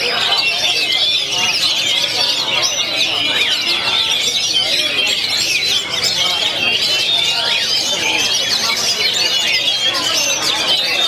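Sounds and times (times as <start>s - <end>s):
chorus of birds singing: 0.0s - 11.0s.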